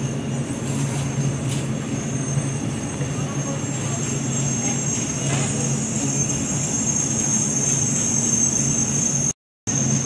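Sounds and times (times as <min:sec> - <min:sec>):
street traffic: 0:00.0 - 0:09.1.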